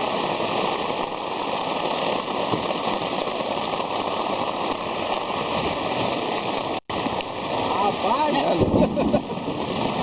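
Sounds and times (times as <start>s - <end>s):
heavy rain on water: 0.0s - 10.0s.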